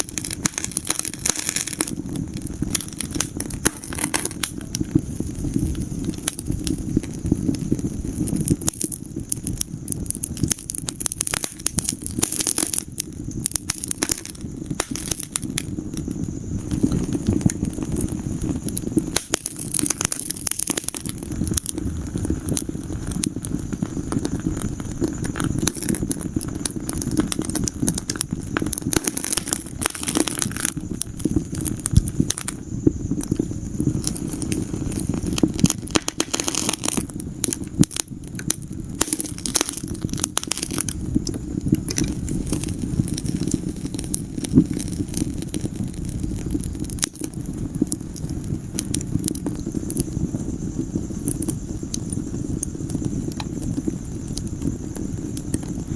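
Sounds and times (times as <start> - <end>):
fire pops and snaps: 0.0 - 55.9
low rush of flames: 0.0 - 55.9.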